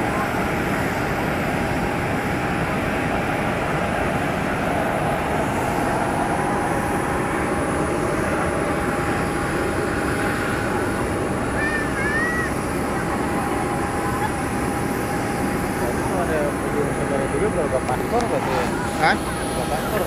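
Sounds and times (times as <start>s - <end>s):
jet turbine rushing and whining: 0.0s - 20.0s.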